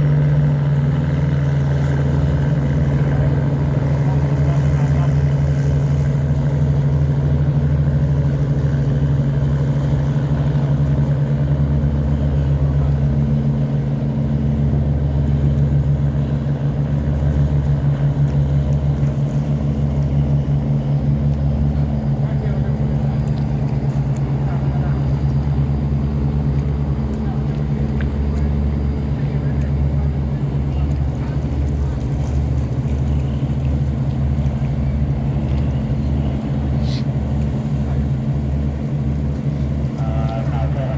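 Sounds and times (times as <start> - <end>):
diesel boat engines throbbing: 0.0 - 40.9.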